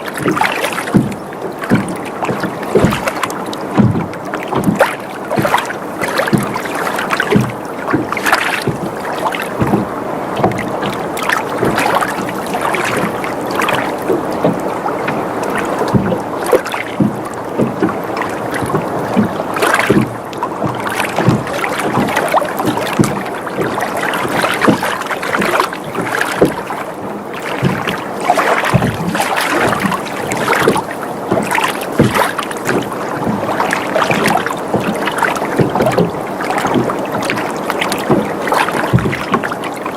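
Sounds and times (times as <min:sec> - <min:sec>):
boat creaking and knocking: 0:00.0 - 0:39.9
water lapping against hull: 0:00.0 - 0:39.9.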